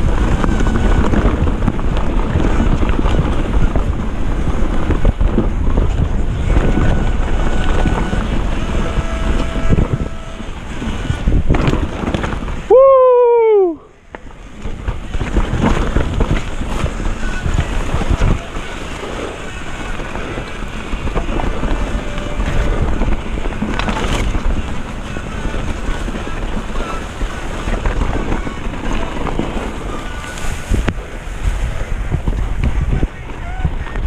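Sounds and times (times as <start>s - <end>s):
tyres rumbling and bike rattling: 0.0s - 34.0s
wind buffeting microphone: 0.0s - 34.0s.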